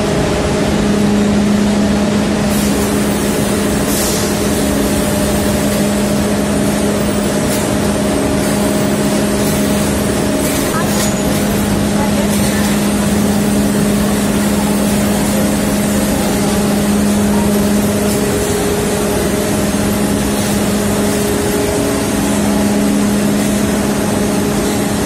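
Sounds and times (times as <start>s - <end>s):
machinery running: 0.0s - 25.0s.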